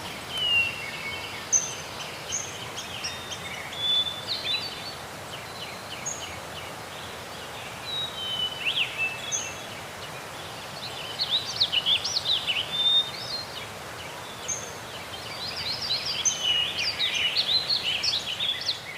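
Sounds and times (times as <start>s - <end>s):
steady background hiss: 0.0s - 18.9s.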